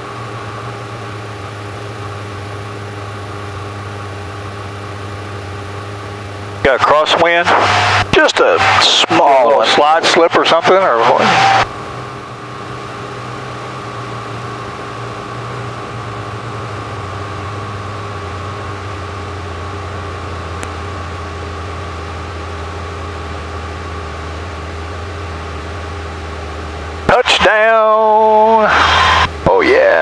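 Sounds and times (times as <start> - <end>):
propeller engine droning: 0.0 - 30.0.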